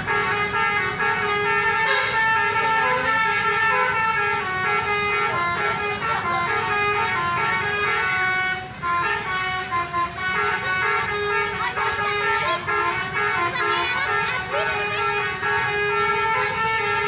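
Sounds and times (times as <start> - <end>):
bus horn playing a melody: 0.0 - 17.0
low traffic rumble: 0.0 - 17.0.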